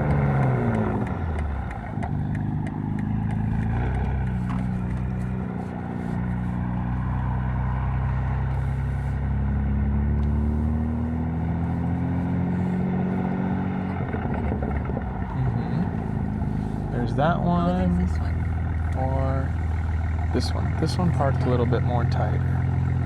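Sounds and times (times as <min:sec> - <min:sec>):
car engine at low revs: 0:00.0 - 0:23.0.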